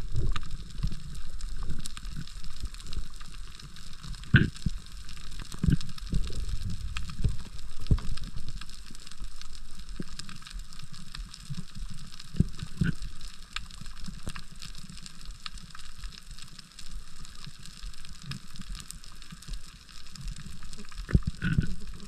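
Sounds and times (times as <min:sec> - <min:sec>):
crackle of small clicks underwater: 0:00.0 - 0:22.0
low rumbling water noise: 0:00.0 - 0:22.0.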